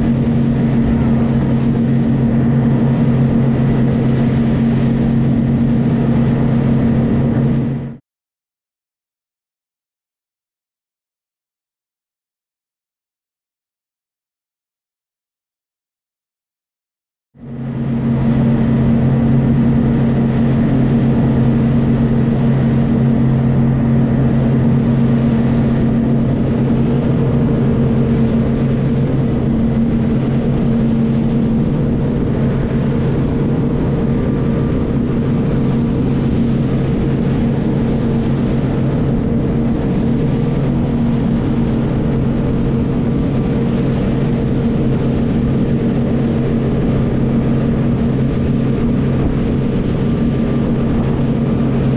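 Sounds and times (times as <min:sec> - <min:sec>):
motorboat engines droning: 0:00.0 - 0:08.0, 0:17.4 - 0:51.9
water rushing from wake: 0:00.0 - 0:08.0, 0:17.4 - 0:51.9.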